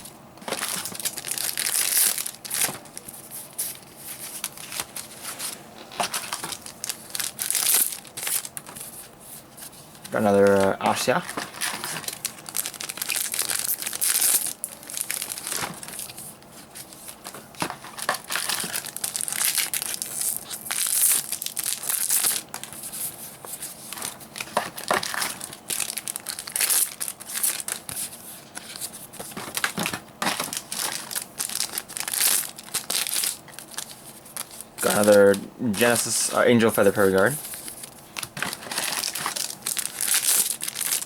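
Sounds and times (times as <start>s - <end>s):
foil wrappers tearing and crinkling: 0.4s - 9.0s, 10.0s - 41.0s.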